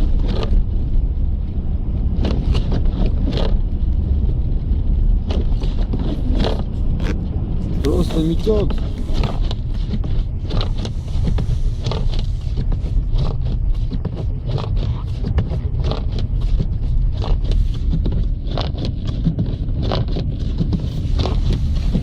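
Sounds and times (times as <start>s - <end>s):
engine and road rumble: 0.0s - 22.0s.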